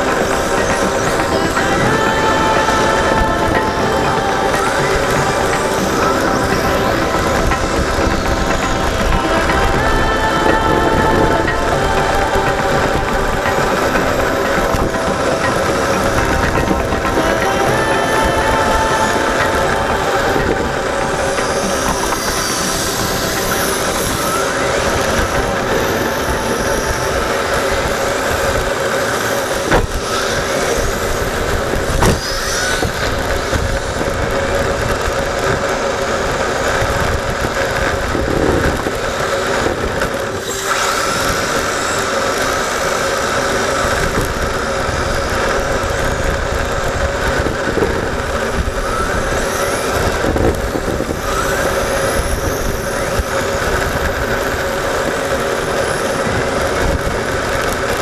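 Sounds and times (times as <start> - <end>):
noisy rush: 0.0 - 58.0
rc car motor whine: 0.0 - 58.0.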